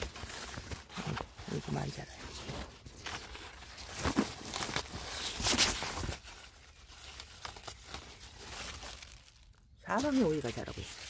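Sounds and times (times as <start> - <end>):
leaves rustling and crinkling: 0.0 - 11.0.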